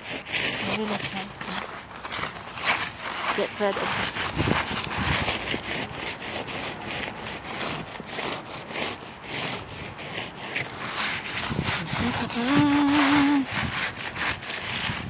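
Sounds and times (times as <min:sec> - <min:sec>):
snow scraped off car roof: 0:00.0 - 0:15.0.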